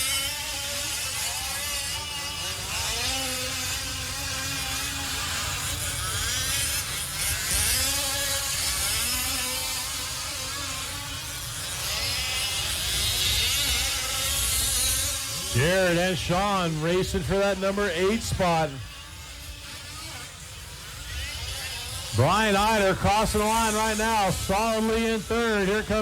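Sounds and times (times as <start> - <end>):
small two-stroke engines buzzing: 0.0 - 26.0.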